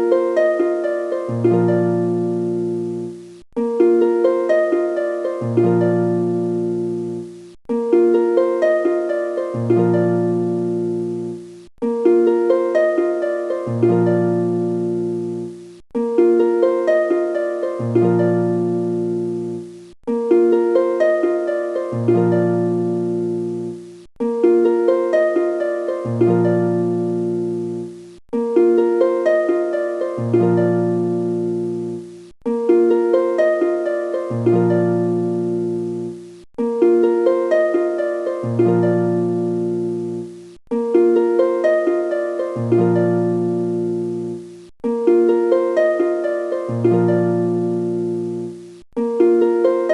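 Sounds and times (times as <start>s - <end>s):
looping plucked harp music: 0.0s - 49.9s.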